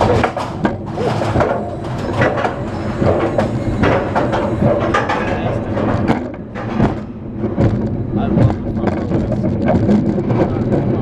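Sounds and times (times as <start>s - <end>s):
roller coaster rattling on track: 0.0s - 11.0s.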